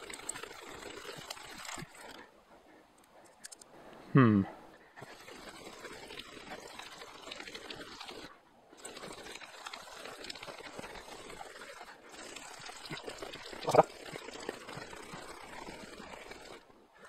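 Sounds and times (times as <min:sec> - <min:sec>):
fungus scraping along wooden groove: 0:00.0 - 0:02.3, 0:05.0 - 0:17.0.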